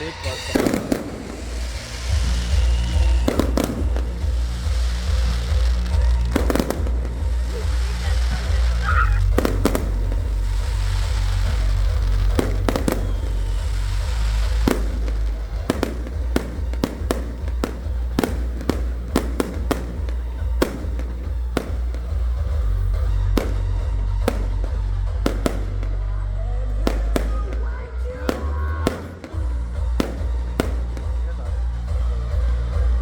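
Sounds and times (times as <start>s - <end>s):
fireworks bangs: 0.0s - 33.0s
loud music with heavy bass: 0.0s - 33.0s.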